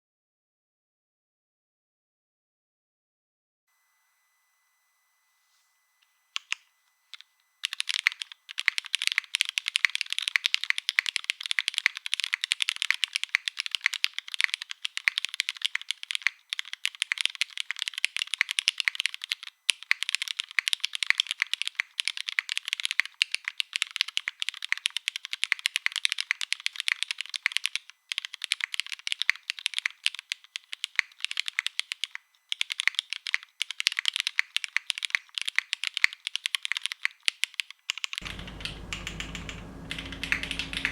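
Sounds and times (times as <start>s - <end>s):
mechanical keyboard typing: 6.4s - 40.9s.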